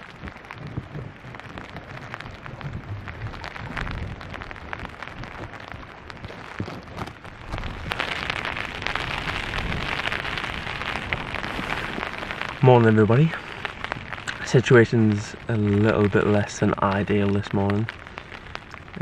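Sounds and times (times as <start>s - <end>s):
low wind rumble: 0.0s - 19.0s
raindrops tapping: 0.0s - 19.0s.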